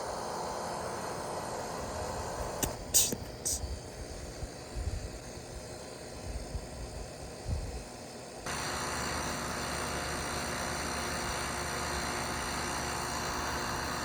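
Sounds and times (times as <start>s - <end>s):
heat pump fan whoosh and hum: 0.0s - 14.0s.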